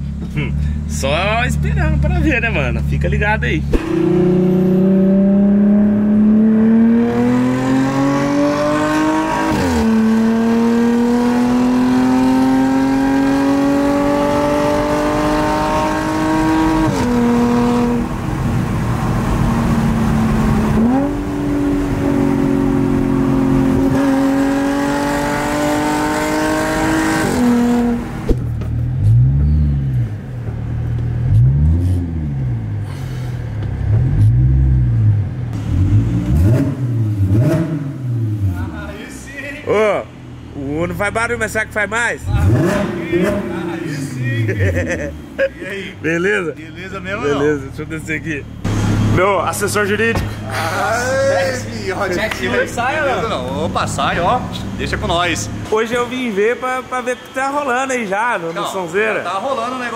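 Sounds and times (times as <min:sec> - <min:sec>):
car engine accelerating: 0:00.0 - 0:39.1, 0:39.7 - 0:55.8.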